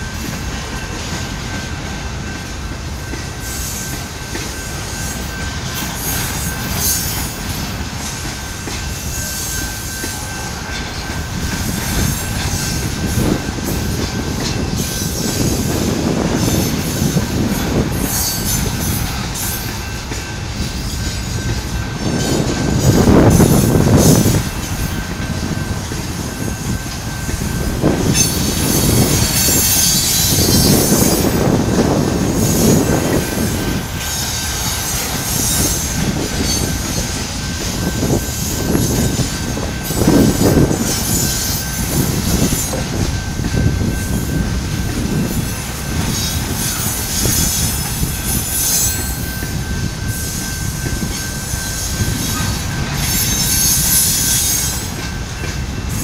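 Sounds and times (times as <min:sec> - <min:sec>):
freight train rumbling past: 0:00.0 - 0:56.0
wheels squealing: 0:03.4 - 0:56.0.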